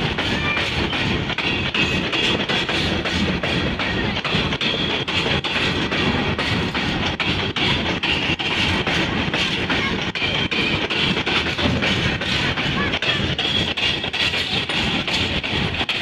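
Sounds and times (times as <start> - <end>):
continuous rumble: 0.0 - 16.0
wheels clicking over rail joints: 0.0 - 16.0.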